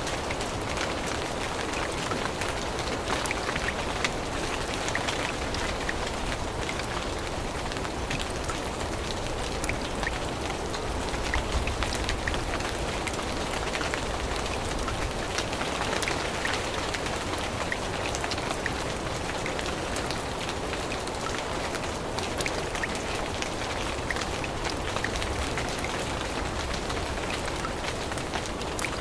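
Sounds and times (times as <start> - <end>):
rain falling through leaves: 0.0 - 29.0
raindrops ticking close by: 0.0 - 29.0.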